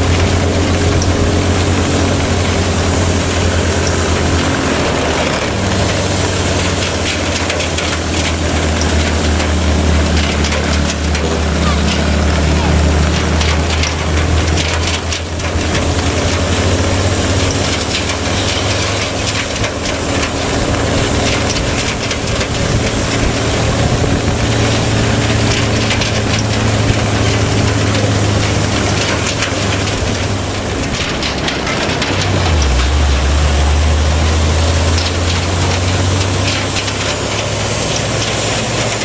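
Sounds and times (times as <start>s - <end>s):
dense clattering rattle: 0.0s - 39.0s
diesel truck engine under load: 0.0s - 39.0s.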